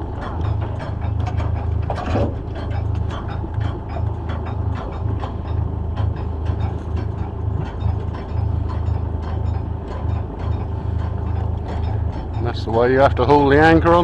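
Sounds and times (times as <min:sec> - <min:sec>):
anchor windlass pawl clicking: 0:00.0 - 0:14.0
low steady drone: 0:00.0 - 0:14.0.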